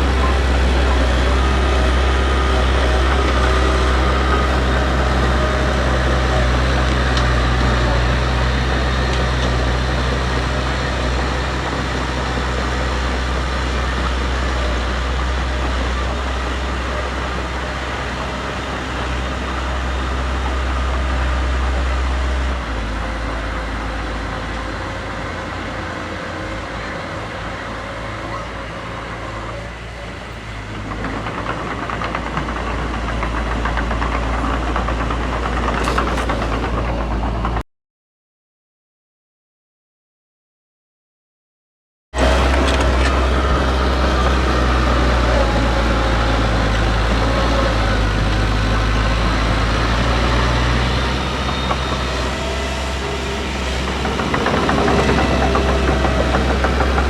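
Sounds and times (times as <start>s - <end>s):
diesel engine droning: 0.0s - 37.6s, 42.2s - 57.0s.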